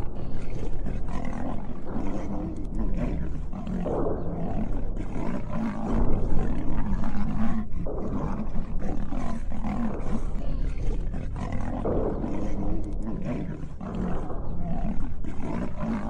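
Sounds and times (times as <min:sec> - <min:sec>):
lion and tiger roaring and growling: 0:00.0 - 0:16.0
steady low hum: 0:00.0 - 0:16.0.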